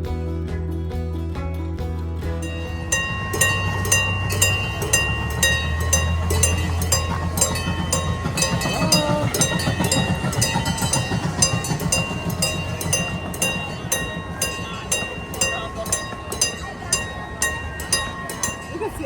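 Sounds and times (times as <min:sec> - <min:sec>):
miniature train engine hum: 0:02.3 - 0:19.0.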